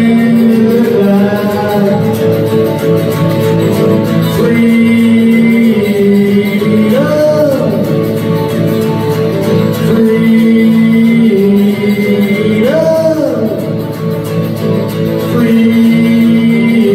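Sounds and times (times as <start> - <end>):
man singing: 0.0 - 16.9
strummed acoustic guitar: 0.0 - 16.9.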